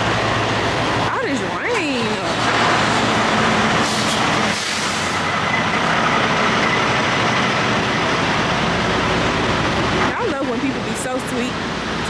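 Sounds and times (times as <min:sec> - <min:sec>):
heavy rain: 0:00.0 - 0:12.0
vehicle engine running low: 0:00.0 - 0:12.0.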